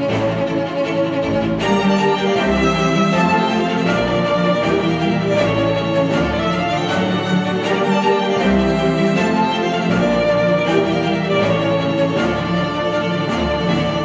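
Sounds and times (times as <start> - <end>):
string music over speakers: 0.0 - 14.0.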